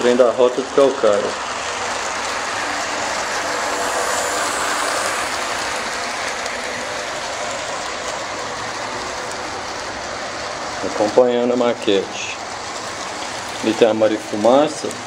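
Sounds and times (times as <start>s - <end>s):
model train whirring rattle: 0.0s - 15.0s.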